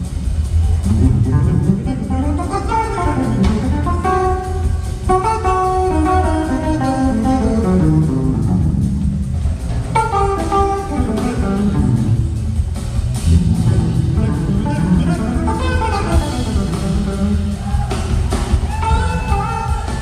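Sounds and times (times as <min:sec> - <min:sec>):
drums: 0:00.0 - 0:20.0
electric bass: 0:00.0 - 0:20.0.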